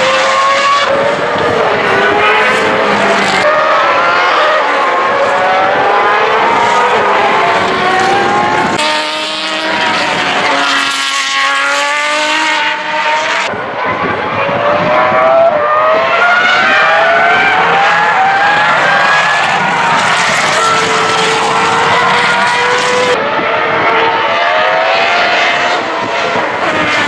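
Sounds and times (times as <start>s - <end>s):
racing car engines at high revs: 0.0s - 27.0s.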